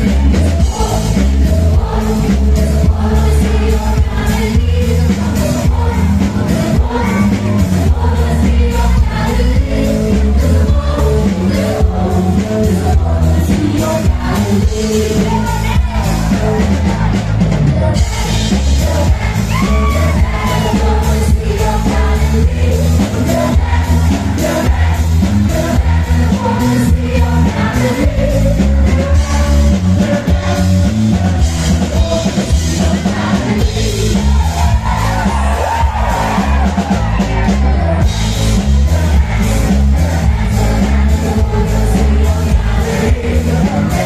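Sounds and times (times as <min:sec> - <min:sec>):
heavy bass line: 0:00.0 - 0:44.0
live band music over pa: 0:00.0 - 0:44.0
person singing: 0:00.0 - 0:44.0.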